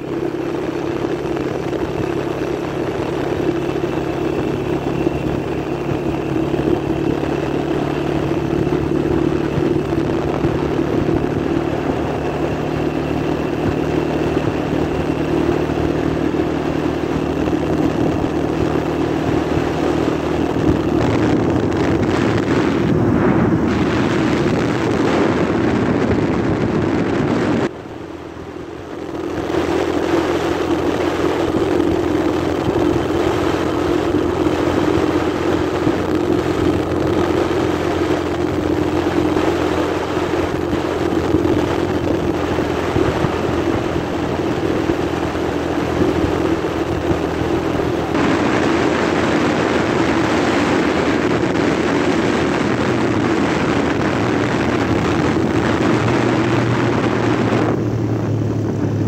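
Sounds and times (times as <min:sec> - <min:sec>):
road rushing noise: 0:00.0 - 0:59.0
vehicle engine drone: 0:00.0 - 0:59.0.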